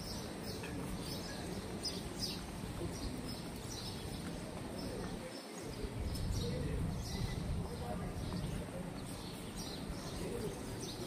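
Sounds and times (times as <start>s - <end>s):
small birds chirping: 0.0s - 11.0s
steady background noise: 0.0s - 11.0s.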